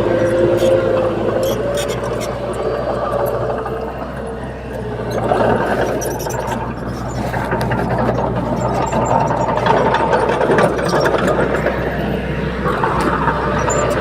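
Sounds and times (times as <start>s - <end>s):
bulldozer diesel engine running: 0.0s - 14.0s
mechanical rattle: 0.0s - 14.0s.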